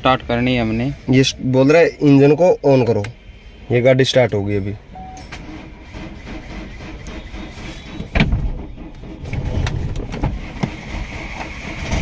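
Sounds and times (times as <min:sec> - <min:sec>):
car engine cranking and idling: 0:00.0 - 0:12.0.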